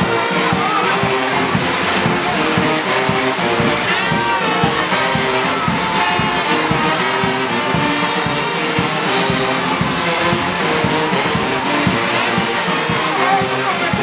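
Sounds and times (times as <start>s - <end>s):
brass notes: 0.0s - 14.0s
steady drumbeat: 0.0s - 14.0s.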